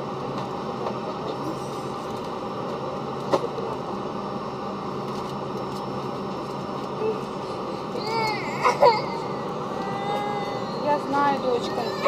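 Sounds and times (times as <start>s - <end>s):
airliner cabin noise: 0.0s - 12.0s.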